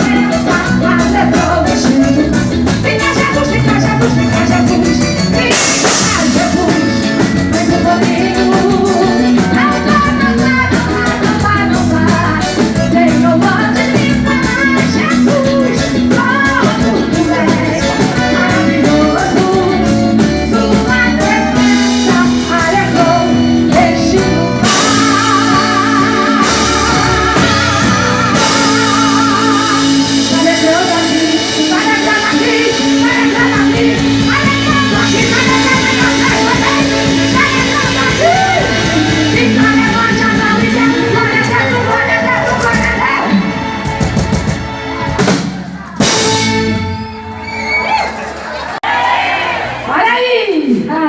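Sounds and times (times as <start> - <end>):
person singing: 0.0 - 44.0
live band playing: 0.0 - 51.0.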